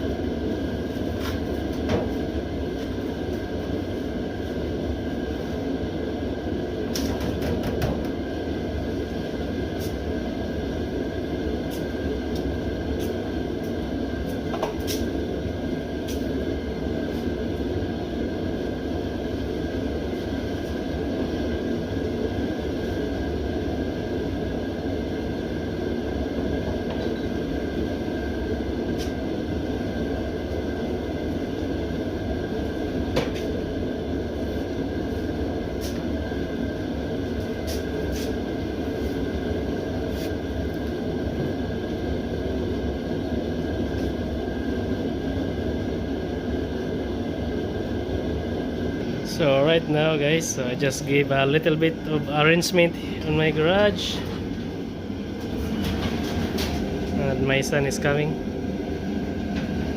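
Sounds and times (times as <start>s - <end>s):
faint steady whine: 0.0s - 59.9s
heater burner rushing: 0.0s - 59.9s.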